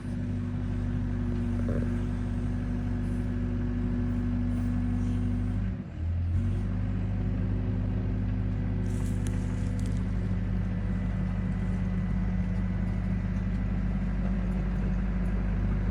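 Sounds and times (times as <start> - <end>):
excavator diesel engine running: 0.0 - 15.9.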